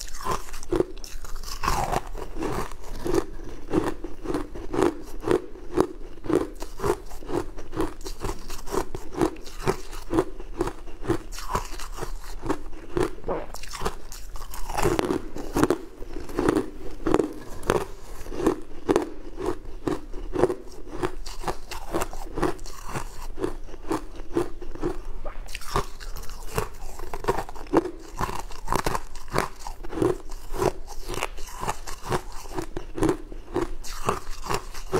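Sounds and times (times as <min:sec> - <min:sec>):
person chewing crunchy ice: 0:00.0 - 0:34.9.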